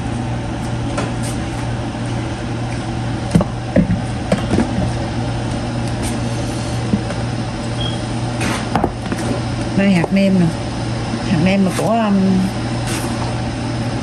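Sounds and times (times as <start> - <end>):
low mechanical hum with hiss: 0.0 - 14.0.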